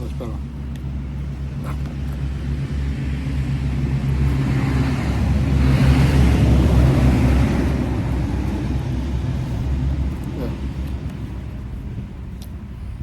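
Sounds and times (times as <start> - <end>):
steady low rumble: 0.0 - 13.0
vehicle passing by: 1.0 - 13.0.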